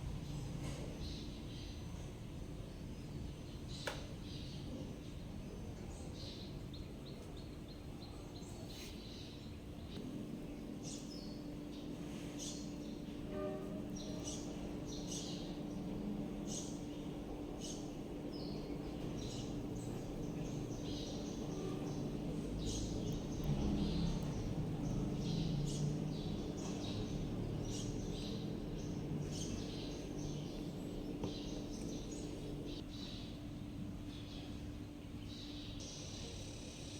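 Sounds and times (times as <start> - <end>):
steady low hum: 0.0 - 36.9
small birds chirping: 0.2 - 36.9.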